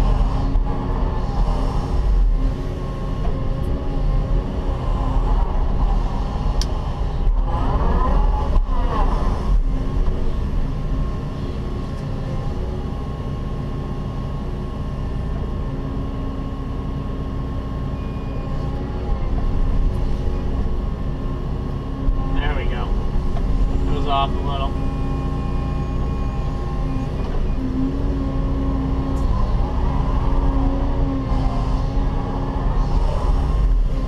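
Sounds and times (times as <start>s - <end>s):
excavator engine and hydraulics: 0.0s - 34.0s
hydraulic whine: 0.0s - 34.0s.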